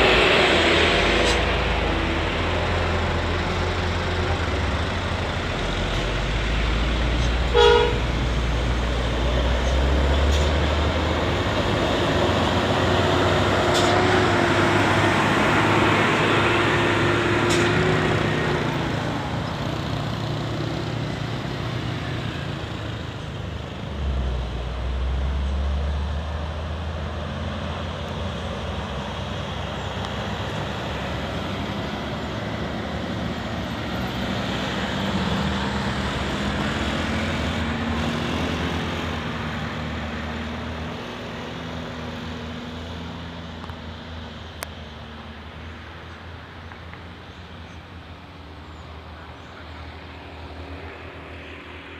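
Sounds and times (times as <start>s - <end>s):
low engine rumble: 0.0s - 51.9s
passing road traffic: 0.0s - 51.9s
truck diesel engine climbing: 0.0s - 51.9s.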